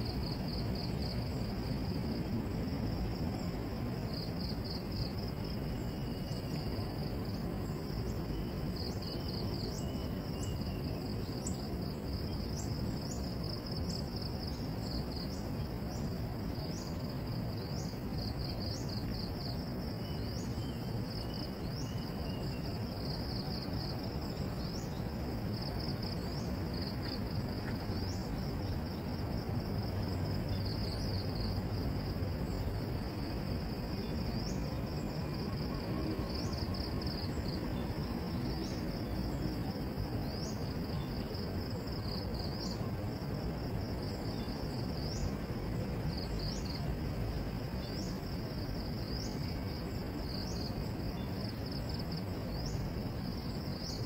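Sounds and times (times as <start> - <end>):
insects chirping in pulsed trills: 0.0 - 54.0
low background noise: 0.0 - 54.0.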